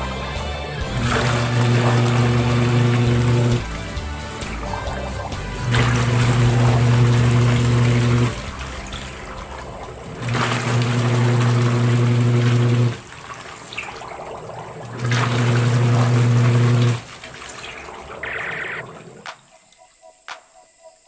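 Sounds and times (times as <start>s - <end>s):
washing machine motor hum: 0.4s - 19.3s
water swishing: 0.7s - 19.6s.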